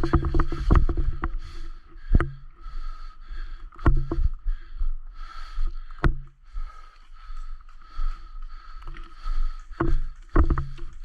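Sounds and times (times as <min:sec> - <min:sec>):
rustling of movement: 0:00.0 - 0:11.0.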